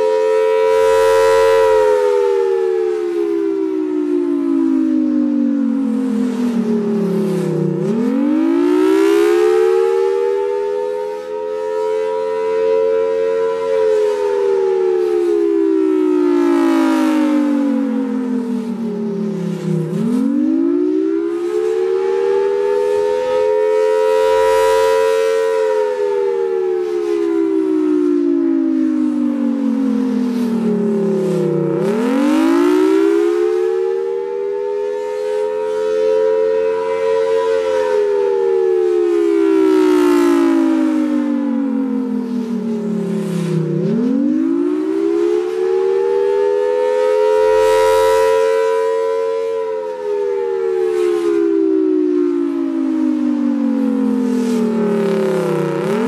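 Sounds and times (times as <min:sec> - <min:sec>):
rotating warning siren: 0:00.0 - 0:56.0.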